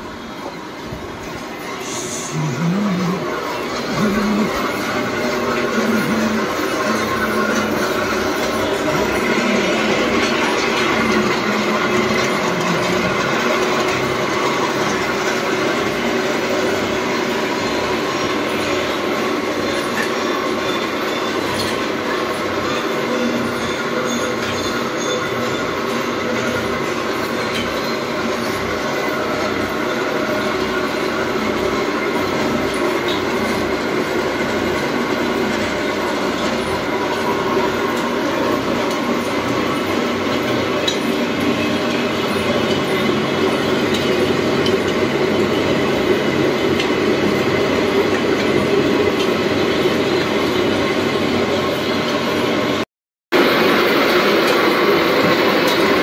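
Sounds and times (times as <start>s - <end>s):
machinery droning and rattling: 0.0s - 52.8s, 53.4s - 56.0s.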